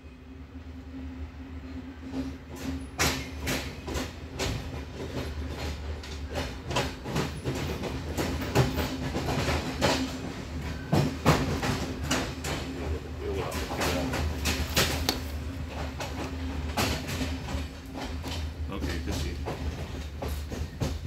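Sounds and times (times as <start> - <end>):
train low rumble: 0.0 - 21.0
train wheels clacking: 2.0 - 21.0.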